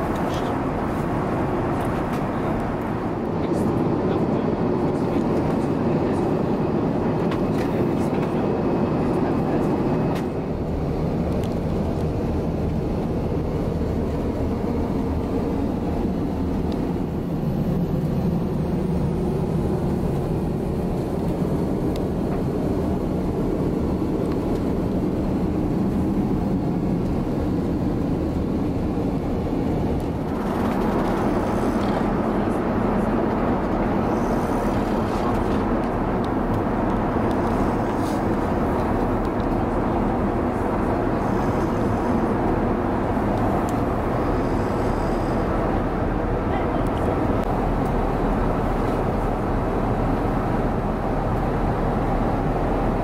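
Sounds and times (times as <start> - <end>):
airplane cabin noise: 0.0 - 53.0
rush of air and engines: 0.0 - 53.0.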